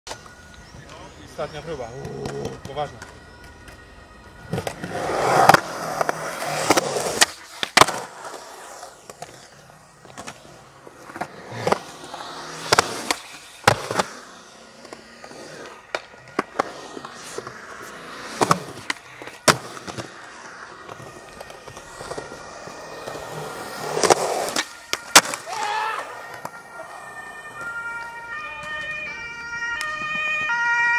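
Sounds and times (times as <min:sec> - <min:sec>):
skateboard wheels rolling on concrete: 0:00.1 - 0:30.9.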